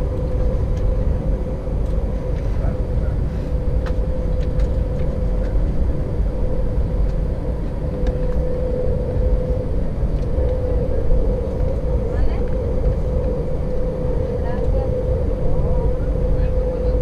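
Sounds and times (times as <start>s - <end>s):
jet engines idling rumble: 0.0s - 17.0s
steady cabin hum: 0.0s - 17.0s.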